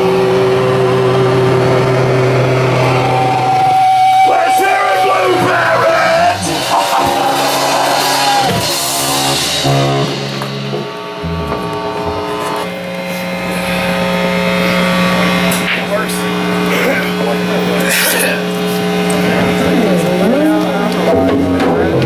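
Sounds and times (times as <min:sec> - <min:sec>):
distorted electric guitar: 0:00.0 - 0:22.0
drums: 0:00.0 - 0:22.0.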